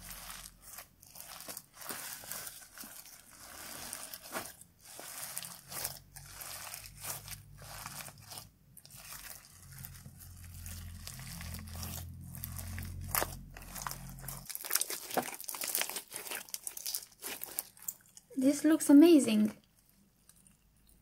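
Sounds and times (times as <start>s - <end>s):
slime crackling and squishing: 0.0s - 21.0s.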